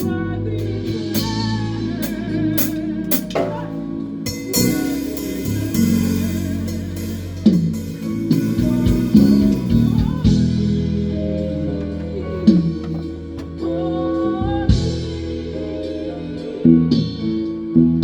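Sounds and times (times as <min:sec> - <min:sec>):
drum kit: 0:00.0 - 0:15.2
bass guitar: 0:00.0 - 0:18.0
guitar: 0:00.0 - 0:18.0.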